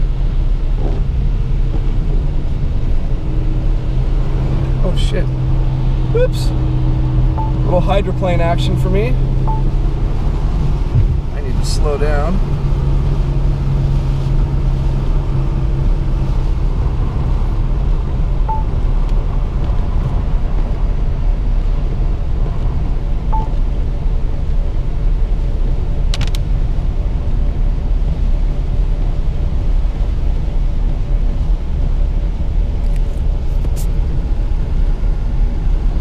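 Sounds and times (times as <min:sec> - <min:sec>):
car engine: 0:00.0 - 0:36.0
tyres on wet road: 0:00.0 - 0:36.0.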